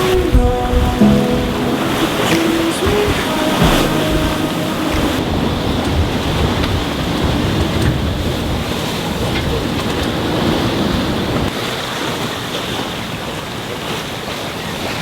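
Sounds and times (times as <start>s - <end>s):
waves and rushing water: 0.0s - 15.0s.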